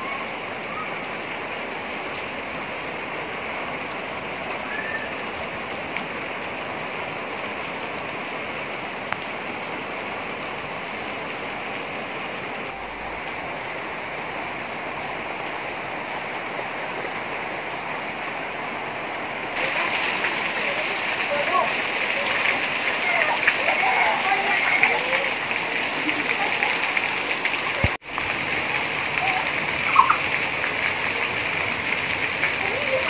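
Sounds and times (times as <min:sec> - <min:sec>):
heavy rain on roof tiles: 0:00.0 - 0:33.0.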